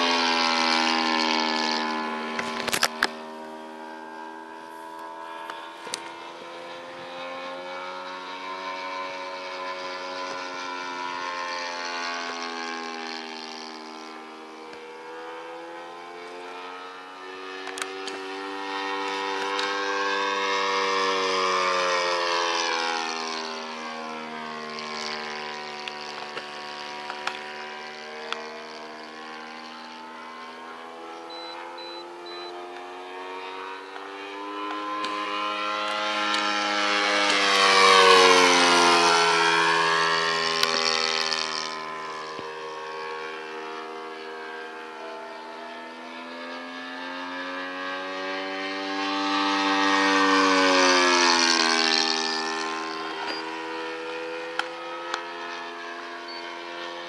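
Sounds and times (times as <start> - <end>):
model plane engine flying past: 0.0 - 57.0.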